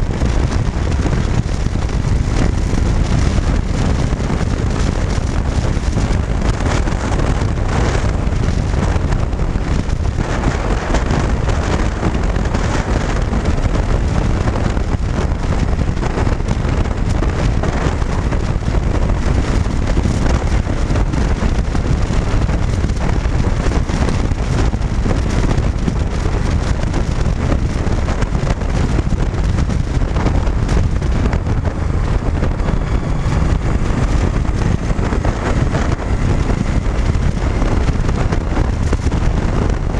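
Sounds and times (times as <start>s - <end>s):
motorcycle engine: 0.0s - 39.9s
wind buffeting microphone: 0.0s - 39.9s.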